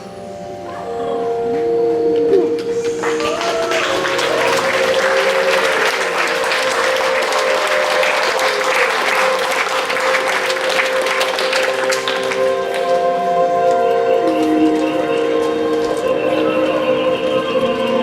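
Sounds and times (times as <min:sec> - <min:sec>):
group of voices humming: 0:00.0 - 0:18.0.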